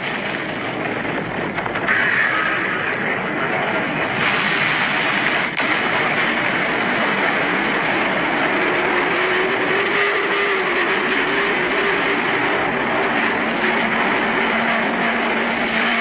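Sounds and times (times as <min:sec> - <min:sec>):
loud rushing roar: 0:00.0 - 0:16.0.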